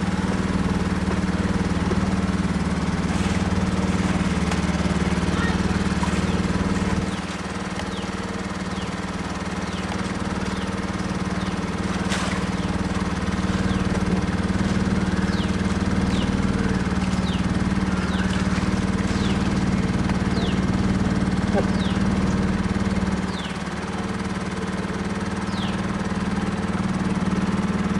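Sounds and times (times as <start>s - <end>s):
boat engine humming: 0.0s - 27.9s.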